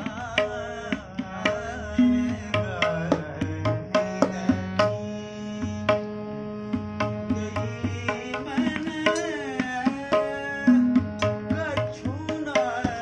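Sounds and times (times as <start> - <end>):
harmonium: 0.0 - 13.0
man singing: 0.0 - 13.0
tabla strokes: 0.0 - 13.0.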